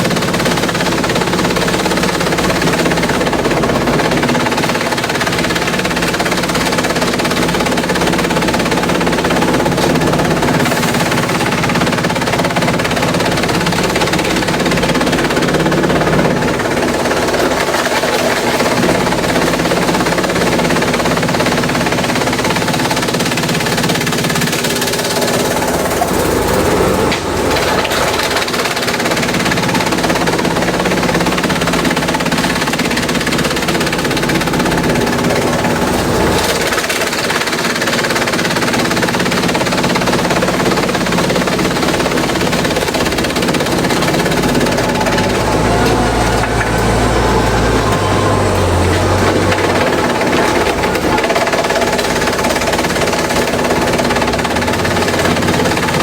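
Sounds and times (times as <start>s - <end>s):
shredder chewing bamboo: 0.0s - 56.0s.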